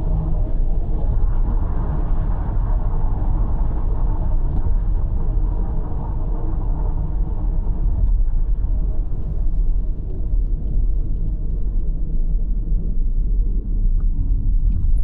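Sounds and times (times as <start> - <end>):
car tyres and engine rumble: 0.0 - 15.0.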